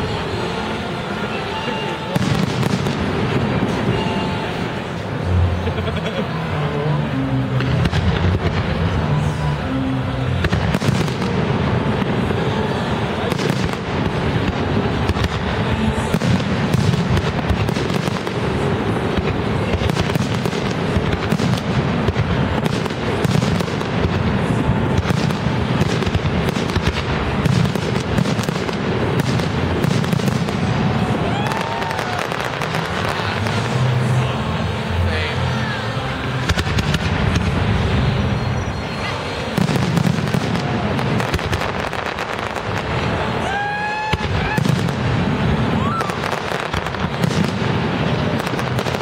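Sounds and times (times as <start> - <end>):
fireworks bursting: 0.0 - 49.0
fireworks crackle: 0.0 - 49.0.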